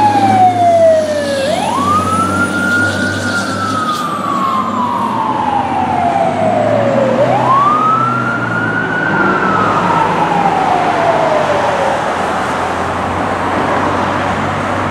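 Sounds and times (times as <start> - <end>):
fire engine siren winding: 0.0 - 12.8.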